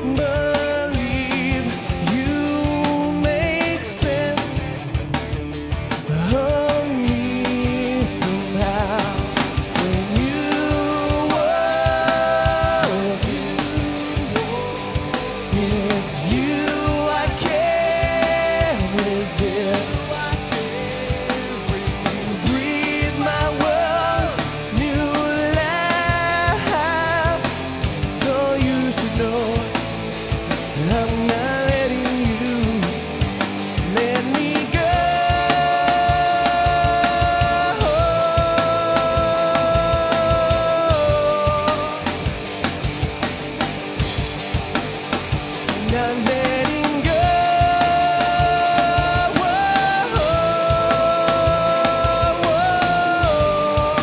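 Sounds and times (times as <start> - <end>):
man singing: 0.0 - 4.9, 6.0 - 29.9, 30.7 - 42.3, 45.6 - 54.0
bass guitar: 0.0 - 54.0
drum kit beat: 0.0 - 54.0
electric guitars: 0.0 - 54.0.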